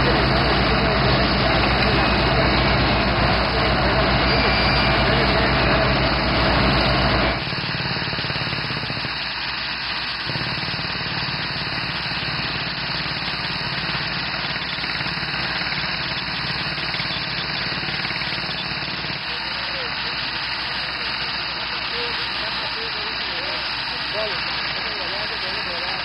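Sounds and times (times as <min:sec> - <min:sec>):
drilling rig low pulsing: 0:00.0 - 0:26.0.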